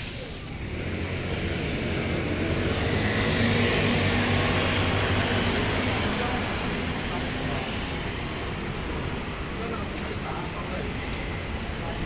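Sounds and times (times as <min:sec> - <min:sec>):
engine running: 0:00.4 - 0:10.1.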